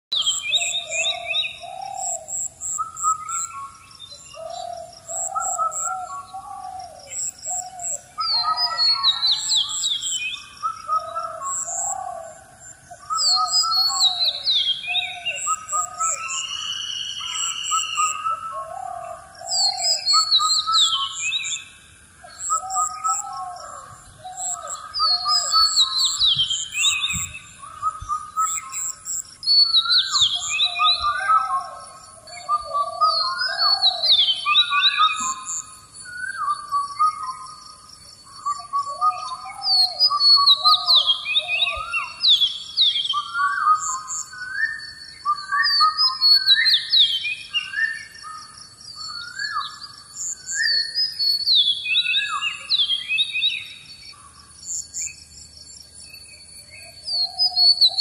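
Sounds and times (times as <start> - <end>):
birds chirping and whistling: 0.1 - 58.0.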